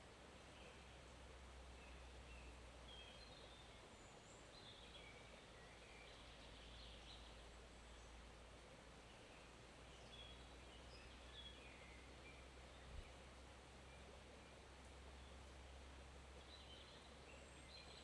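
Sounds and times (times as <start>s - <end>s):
forest stream: 0.0s - 18.0s.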